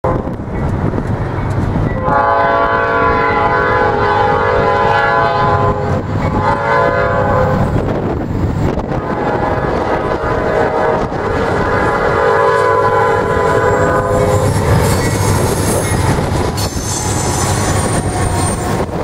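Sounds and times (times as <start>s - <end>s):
locomotive air horn: 2.0s - 7.8s, 8.9s - 18.6s.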